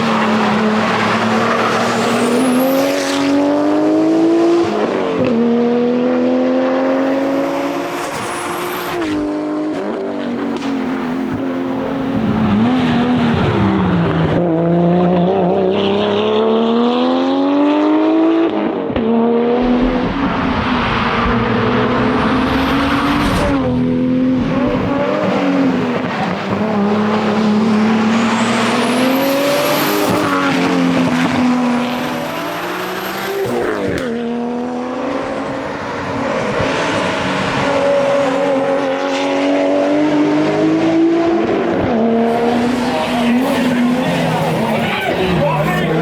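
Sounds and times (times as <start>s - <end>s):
car engine revving at speed: 0.0s - 46.0s.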